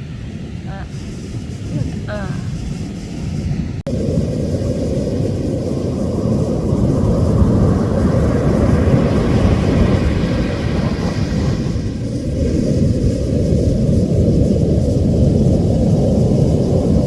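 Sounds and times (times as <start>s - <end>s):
rushing hiss: 0.0s - 17.0s
wind buffeting microphone: 0.0s - 17.0s.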